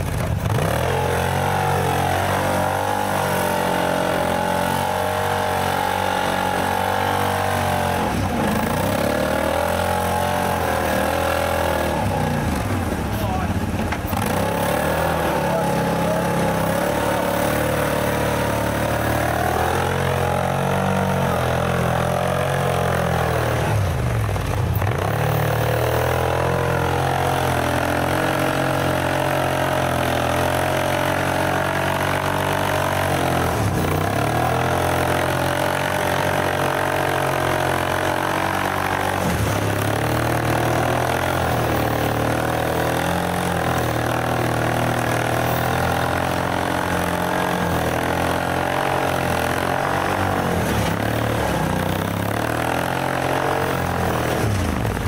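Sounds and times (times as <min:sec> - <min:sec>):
atv engine running under load: 0:00.0 - 0:55.0.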